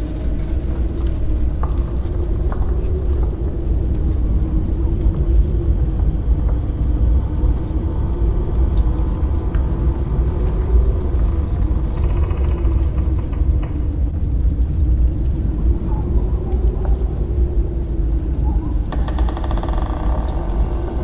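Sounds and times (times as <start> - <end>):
deep rumble: 0.0 - 21.0
low droning tone: 0.0 - 21.0.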